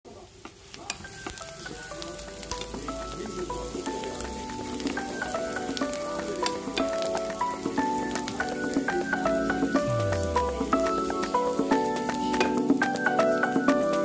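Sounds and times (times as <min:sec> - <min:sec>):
crackles: 0:00.1 - 0:14.0
vegetables sizzling in a frying pan: 0:00.1 - 0:14.0
background music with held notes: 0:00.8 - 0:14.0.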